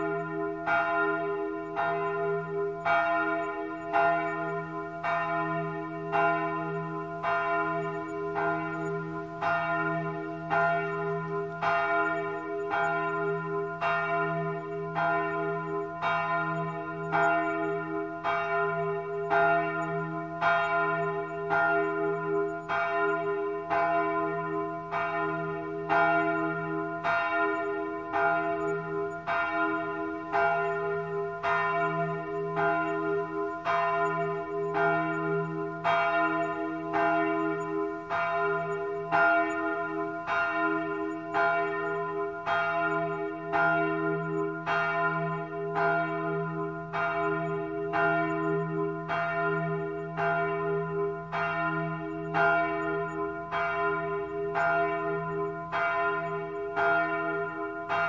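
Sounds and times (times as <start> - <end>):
church bell tolling: 0.0 - 58.0.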